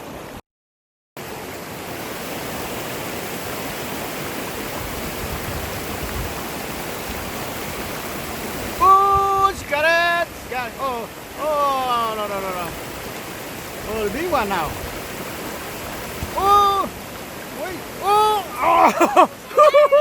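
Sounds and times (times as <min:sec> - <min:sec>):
stream water rushing: 0:00.0 - 0:00.4, 0:01.2 - 0:20.0.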